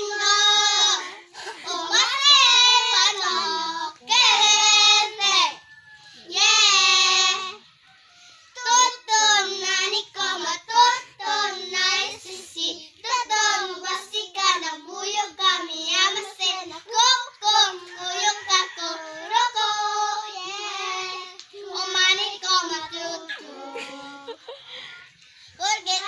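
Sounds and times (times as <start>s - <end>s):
children singing: 0.0s - 7.8s, 8.6s - 26.0s.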